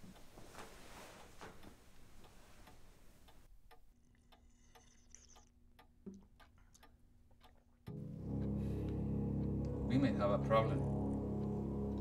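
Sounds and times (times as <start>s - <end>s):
clock ticking: 1.2s - 12.0s.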